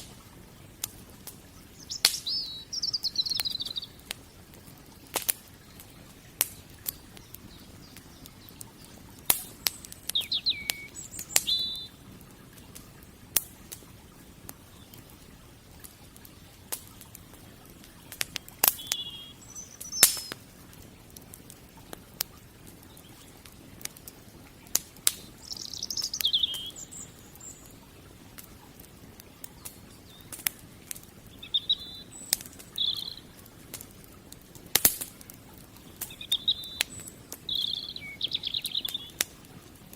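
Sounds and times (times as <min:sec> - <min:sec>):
birds chirping: 0:00.0 - 0:33.7, 0:35.3 - 0:39.9
wood fire crackling and popping: 0:00.0 - 0:39.9.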